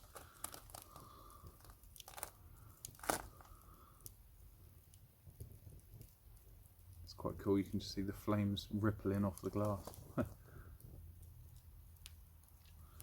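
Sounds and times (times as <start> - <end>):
sharp pops from fire: 0.0 - 7.1, 9.1 - 13.0
wood fire crackling: 0.0 - 13.0.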